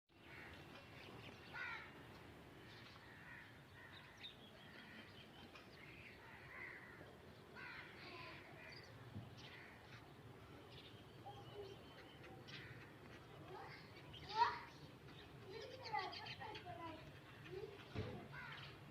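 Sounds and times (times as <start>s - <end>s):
birds calling faintly: 0.1s - 18.9s
low background noise: 0.1s - 18.9s.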